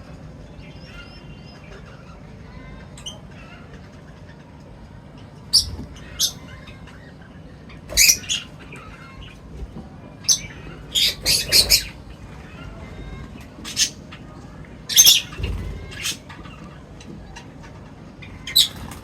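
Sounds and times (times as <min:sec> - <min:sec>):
birds chirping and squawking: 0:00.0 - 0:19.0
faint steady background noise: 0:00.0 - 0:19.0.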